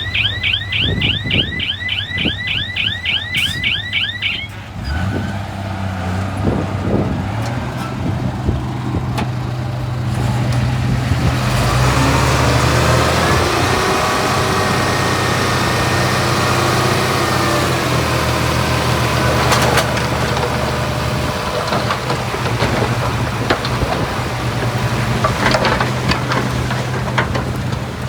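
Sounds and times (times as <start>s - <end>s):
heavy diesel machine running: 0.0s - 28.0s.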